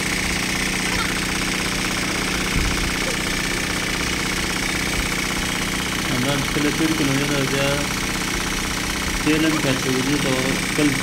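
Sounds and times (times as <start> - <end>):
pneumatic impact wrench rattling: 0.0 - 11.0.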